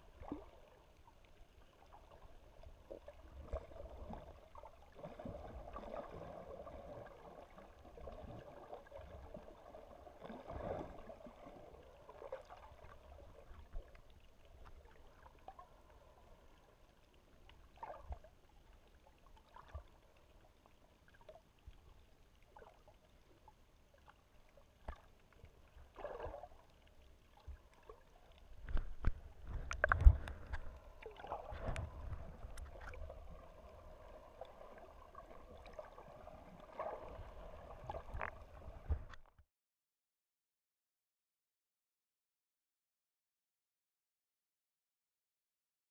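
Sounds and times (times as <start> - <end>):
muffled underwater water wash: 0.0 - 39.3.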